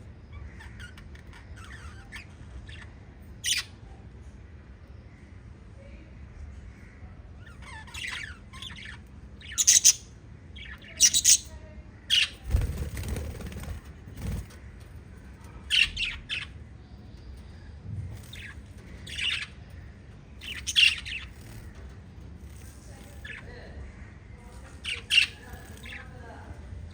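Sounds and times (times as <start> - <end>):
lovebirds chirping and squawking: 0.0 - 4.0, 6.5 - 26.9.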